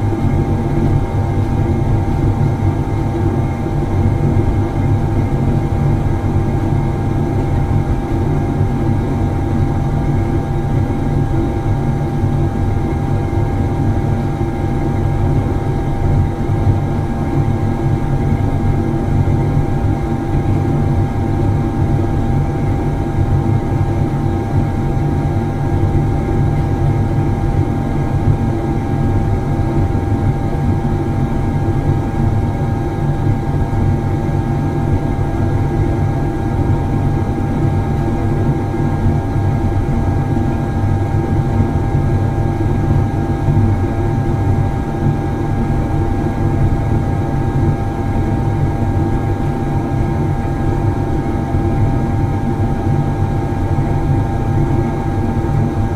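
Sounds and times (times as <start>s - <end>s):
steady hum-like tone: 0.0s - 55.9s.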